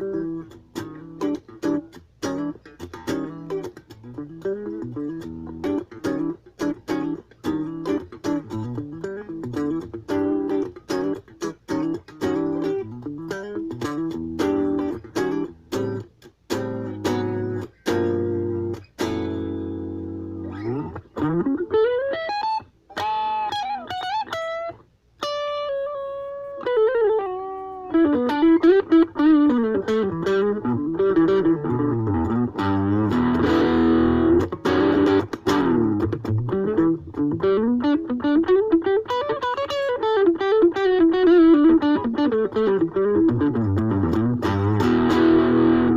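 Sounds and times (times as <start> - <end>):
electric guitar through amp: 0.0 - 45.9.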